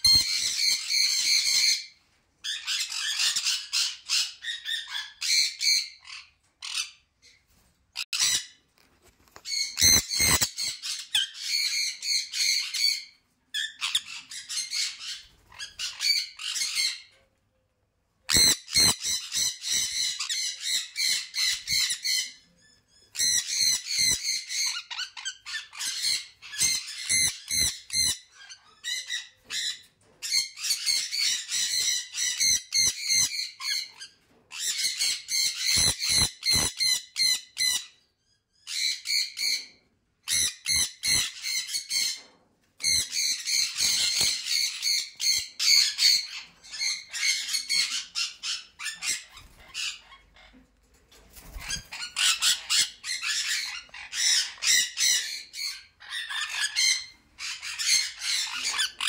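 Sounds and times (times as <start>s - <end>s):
parrots shrill calling: 0.0s - 7.0s, 8.0s - 8.6s, 9.5s - 17.1s, 18.3s - 22.4s, 23.1s - 38.0s, 40.3s - 42.2s, 42.8s - 50.6s, 51.6s - 59.0s.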